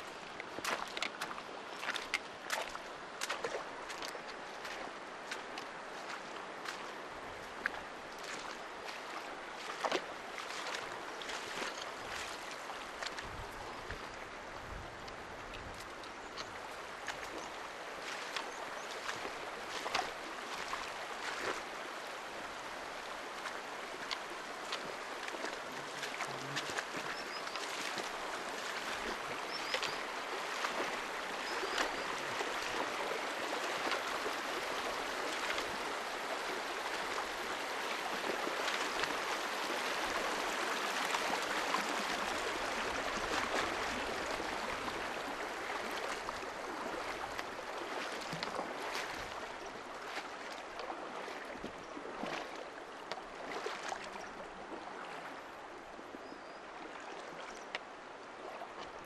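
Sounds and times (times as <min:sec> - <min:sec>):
stream splashing over stones: 0:00.0 - 0:59.0.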